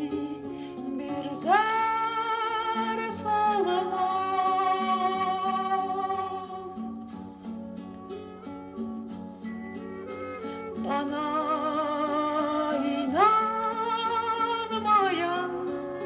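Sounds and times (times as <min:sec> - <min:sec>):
plucked guitar: 0:00.0 - 0:16.0.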